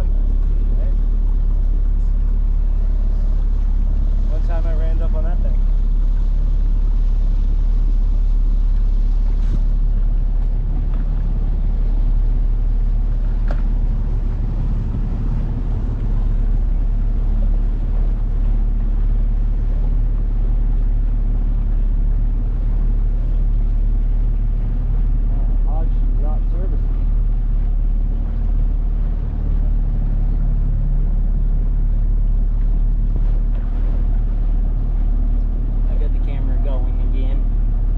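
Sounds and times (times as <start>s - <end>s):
outboard motor droning: 0.0s - 37.9s.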